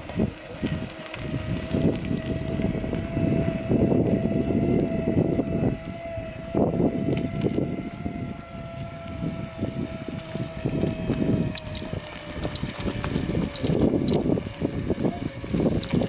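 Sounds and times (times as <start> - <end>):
electric drive whine: 0.0 - 16.0
wind rumble on microphone: 0.0 - 16.0.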